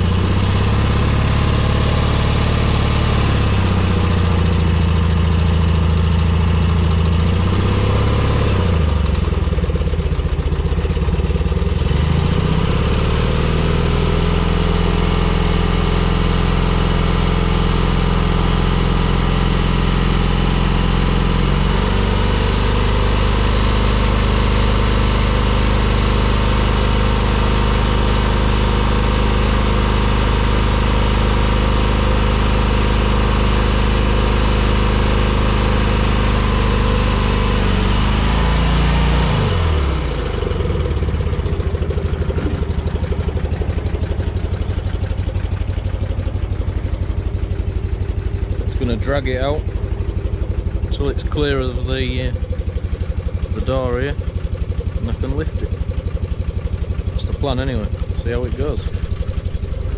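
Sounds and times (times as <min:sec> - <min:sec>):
crane engine running: 0:00.0 - 0:59.9.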